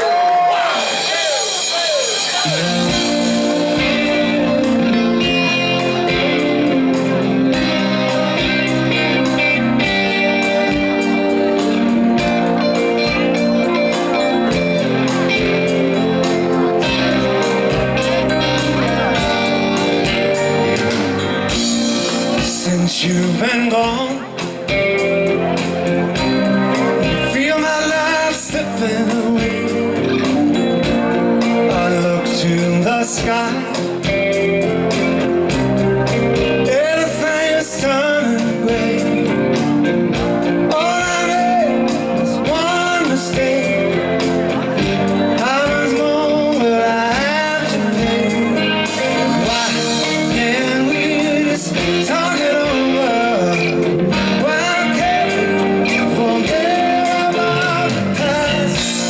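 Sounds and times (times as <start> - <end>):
drums: 0.0 - 59.0
electric guitar: 0.0 - 59.0
person singing: 0.0 - 59.0.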